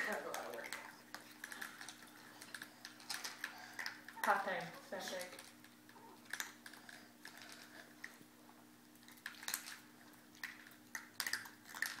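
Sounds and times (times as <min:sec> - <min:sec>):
dog crunching food: 0:00.0 - 0:12.0
faint steady hum: 0:00.0 - 0:12.0.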